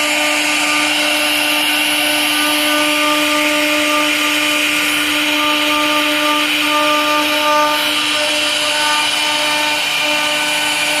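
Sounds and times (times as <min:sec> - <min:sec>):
router cutting hiss: 0:00.0 - 0:11.0
spindle high-pitched whine: 0:00.0 - 0:11.0.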